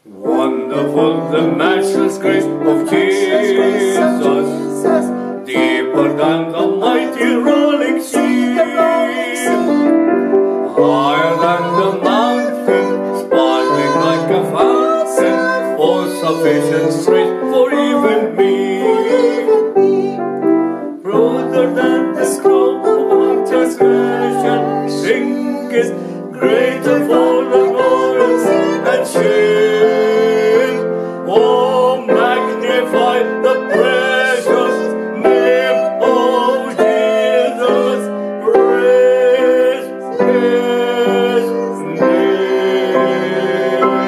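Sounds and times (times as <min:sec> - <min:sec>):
upright piano: 0:00.0 - 0:44.0
woman and man singing hymn: 0:00.0 - 0:44.0.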